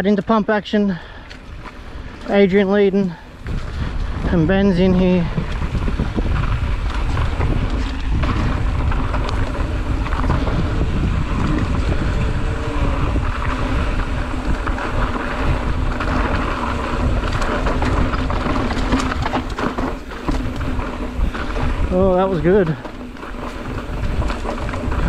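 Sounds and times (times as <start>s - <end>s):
bike rattling over bumps: 0.0s - 25.0s
tyres rumbling over dirt: 0.0s - 25.0s
wind buffeting microphone: 1.0s - 25.0s.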